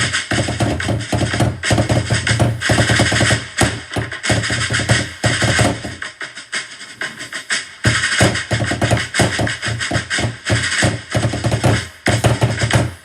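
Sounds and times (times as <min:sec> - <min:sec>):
rapid drumming: 0:00.0 - 0:13.0.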